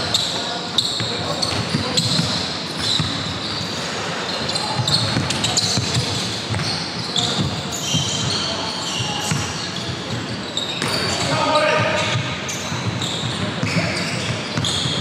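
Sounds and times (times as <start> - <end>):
players' voices: 0.0 - 15.0.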